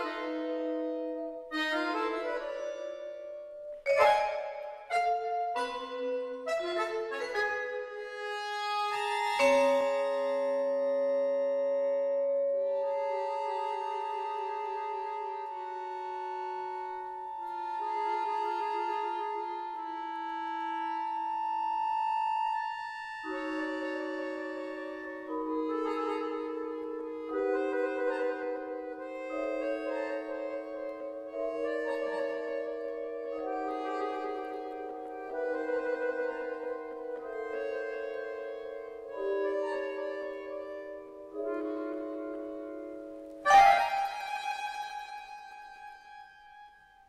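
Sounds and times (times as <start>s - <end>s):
accordion holding chords: 0.0s - 47.0s.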